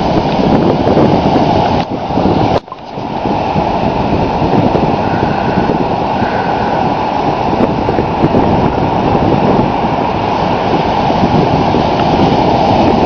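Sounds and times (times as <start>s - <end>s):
waves breaking: 0.0s - 13.0s
wind on microphone: 0.0s - 13.0s.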